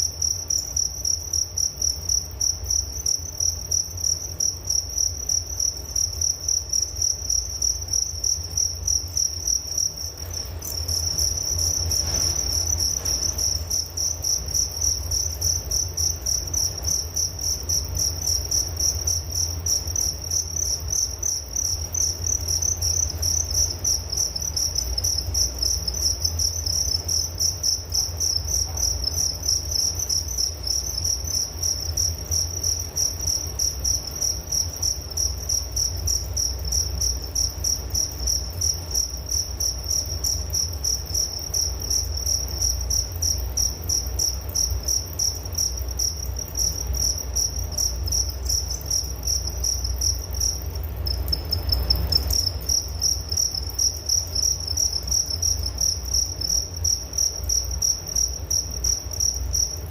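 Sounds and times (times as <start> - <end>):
crickets chirping: 0.0 - 59.9
low steady hum: 0.0 - 59.9.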